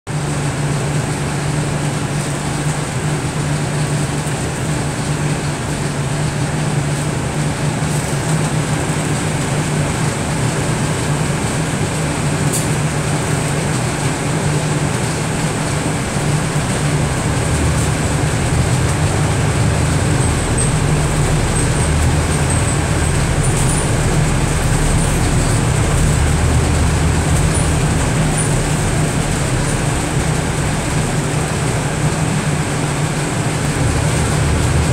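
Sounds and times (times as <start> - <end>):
road noise: 0.1 - 34.9
bus engine hum: 0.2 - 34.9.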